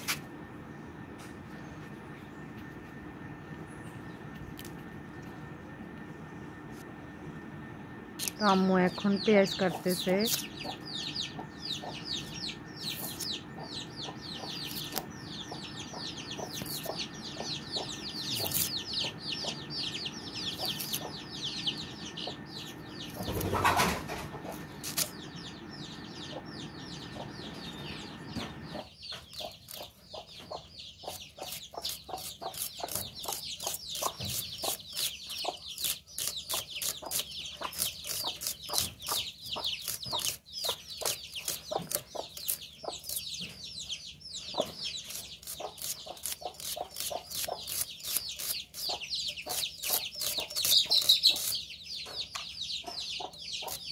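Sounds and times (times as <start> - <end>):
faint steady hum: 0.0 - 53.9
chickens clucking: 9.3 - 53.9.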